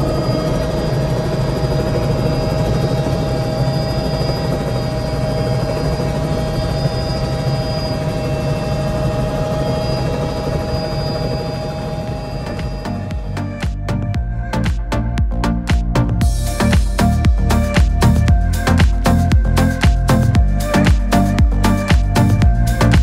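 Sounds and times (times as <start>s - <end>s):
helicopter engine and rotor rumble: 0.0s - 23.0s
high-pitched whine: 0.0s - 23.0s.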